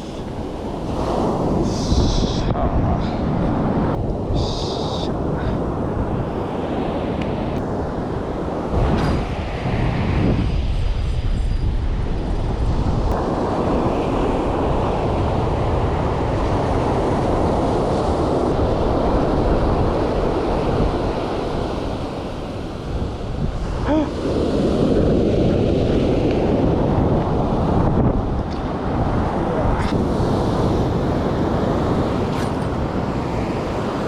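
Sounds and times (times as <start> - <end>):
surf on sandy beach: 0.0 - 34.0
wind buffeting microphone: 0.0 - 34.0.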